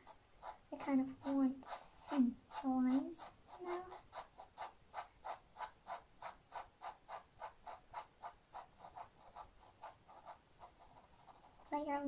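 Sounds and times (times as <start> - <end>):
ink brush scratching on paper: 0.0 - 12.0.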